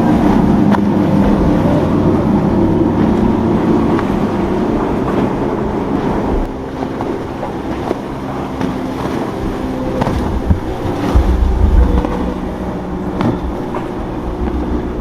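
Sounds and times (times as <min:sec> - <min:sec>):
motorboat engines running: 0:00.0 - 0:15.0.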